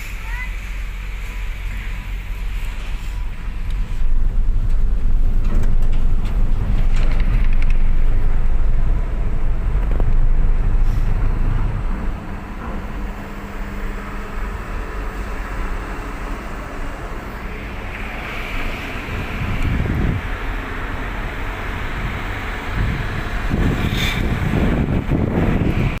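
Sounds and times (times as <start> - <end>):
vehicle engines running: 0.0 - 26.0
wind buffeting microphone: 0.0 - 26.0.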